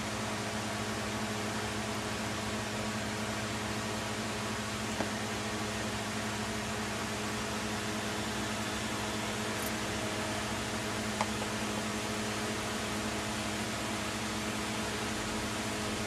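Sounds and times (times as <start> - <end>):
machine hum with low tones: 0.0 - 16.0.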